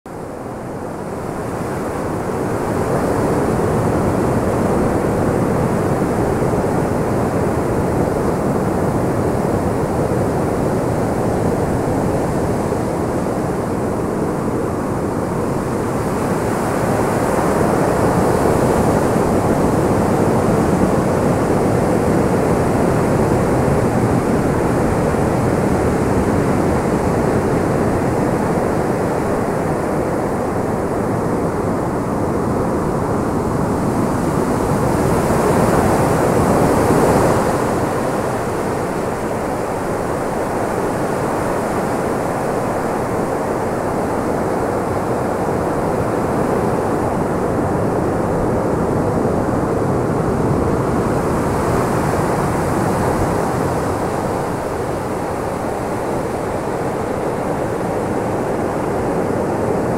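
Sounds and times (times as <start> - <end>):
steady rushing roar: 0.1 - 59.9.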